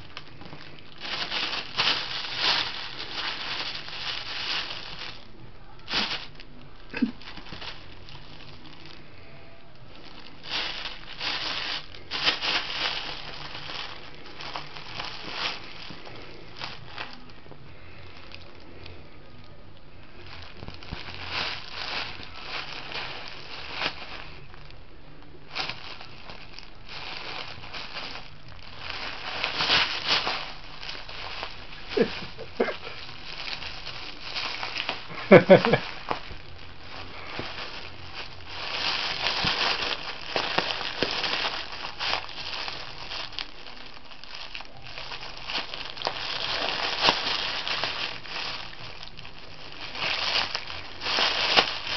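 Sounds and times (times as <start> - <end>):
bag crinkling and rustling: 0.0 - 51.9.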